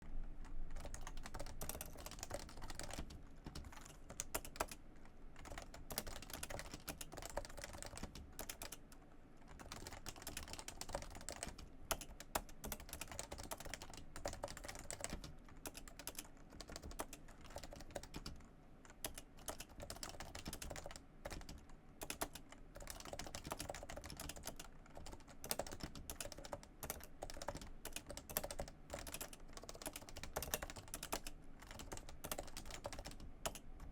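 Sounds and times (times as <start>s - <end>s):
keyboard typing: 0.7s - 4.8s, 5.4s - 8.8s, 9.5s - 33.9s.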